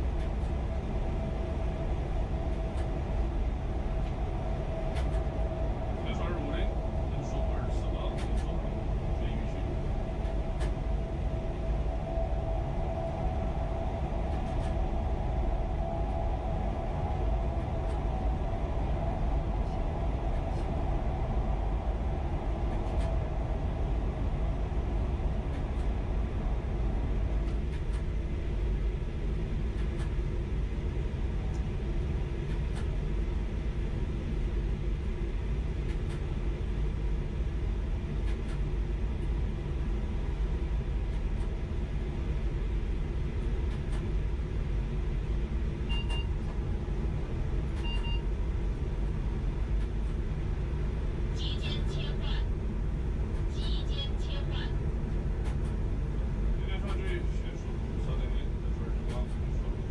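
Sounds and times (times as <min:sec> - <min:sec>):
midrange hum: 0:00.0 - 0:59.9
train rumbling: 0:00.0 - 0:59.9.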